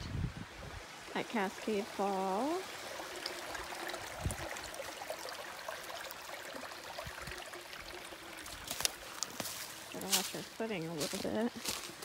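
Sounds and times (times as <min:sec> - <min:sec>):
stream trickling over rocks: 0:00.1 - 0:12.0.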